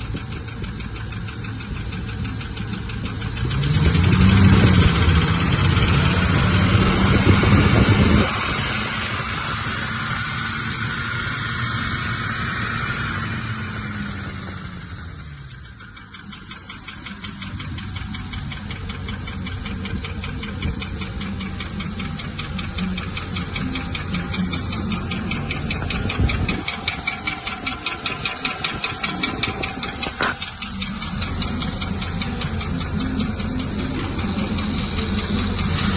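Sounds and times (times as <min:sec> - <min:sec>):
car engine running: 0:00.0 - 0:35.9.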